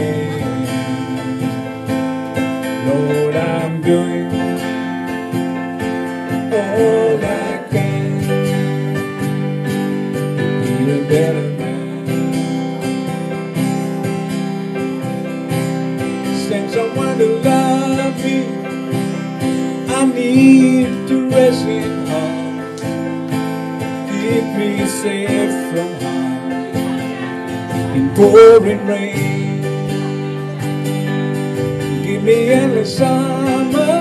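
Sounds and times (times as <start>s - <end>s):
acoustic guitar strumming: 0.0s - 34.0s
keyboard chords and melody: 0.0s - 34.0s.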